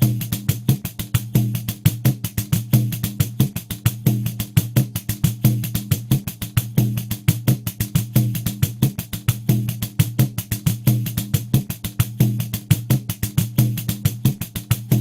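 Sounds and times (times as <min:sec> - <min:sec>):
deep drum-head tones: 0:00.0 - 0:15.0.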